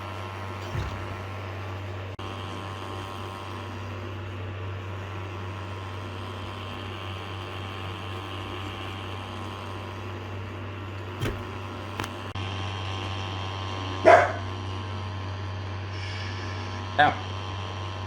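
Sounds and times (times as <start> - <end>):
machine hum with high whine: 0.0 - 18.0.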